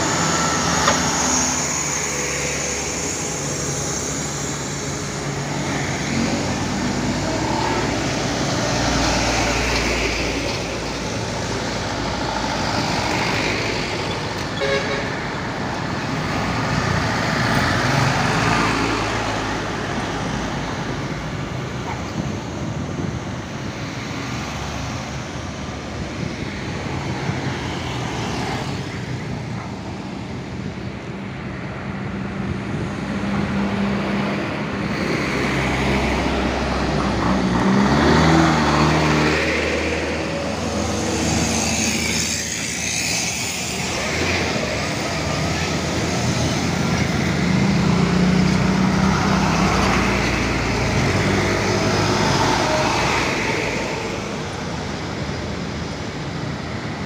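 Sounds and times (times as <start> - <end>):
cars passing: 0.0 - 57.0
diesel truck engine approaching: 0.0 - 57.0
trucks passing: 0.0 - 57.0.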